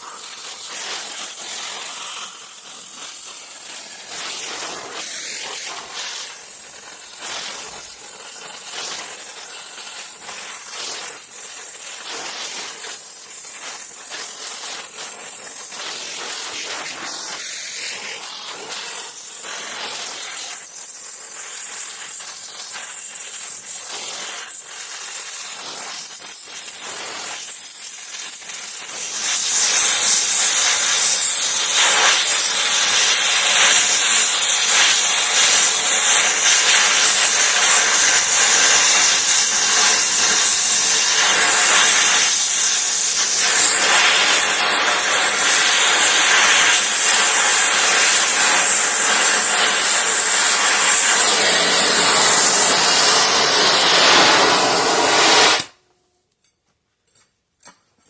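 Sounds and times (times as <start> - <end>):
welding torch flame hissing: 0.0 - 55.8.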